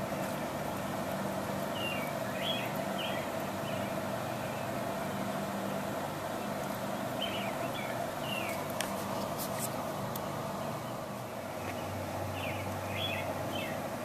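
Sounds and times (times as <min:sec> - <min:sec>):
distant motor humming: 0:00.0 - 0:14.0.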